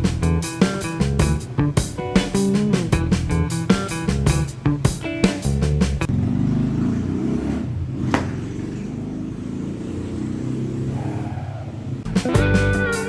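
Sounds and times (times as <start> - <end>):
vehicle engine rumbling: 0.0 - 12.8.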